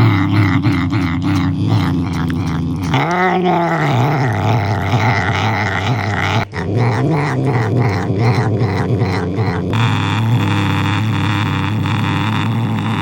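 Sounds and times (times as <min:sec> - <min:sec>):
cat growling low: 0:00.0 - 0:13.0.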